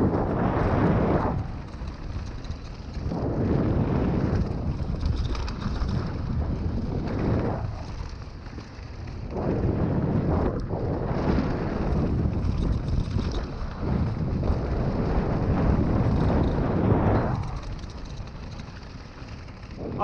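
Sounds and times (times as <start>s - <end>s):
bike tyres on stony trail: 0.0s - 20.0s
wind on microphone: 0.0s - 20.0s.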